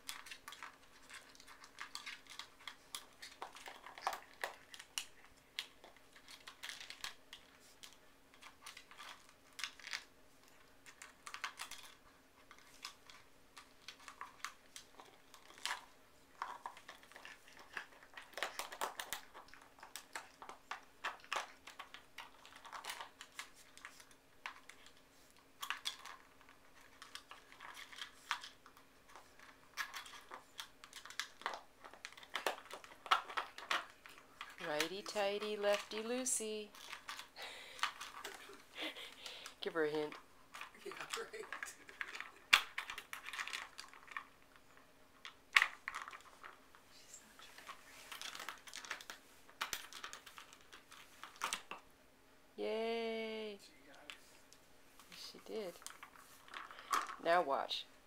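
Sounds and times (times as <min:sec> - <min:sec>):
plastic bottle clicking and crinkling: 0:00.0 - 0:25.0, 0:25.6 - 0:36.1, 0:36.7 - 0:44.6, 0:45.2 - 0:46.7, 0:47.6 - 0:51.8, 0:55.7 - 0:57.2
faint steady hum: 0:00.0 - 0:58.0.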